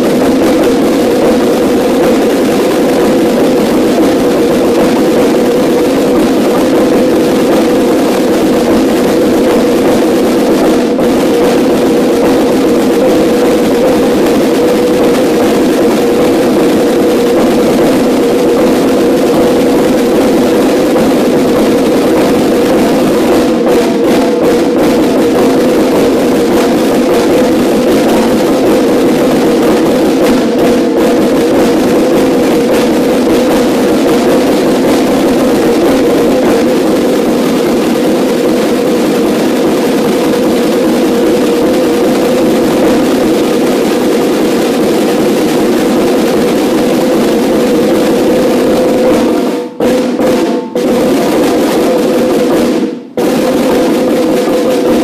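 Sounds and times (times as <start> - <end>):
snare drums playing together: 0.0 - 55.0.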